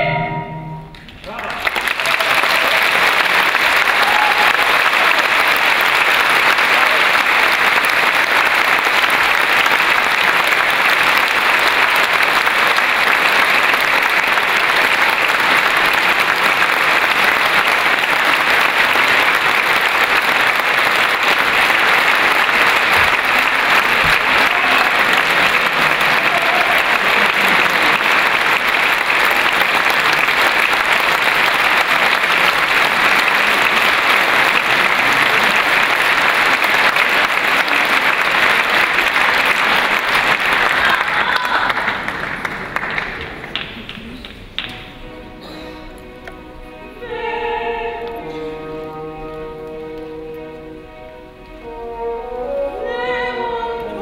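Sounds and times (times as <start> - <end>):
audience applause: 1.1 - 44.9.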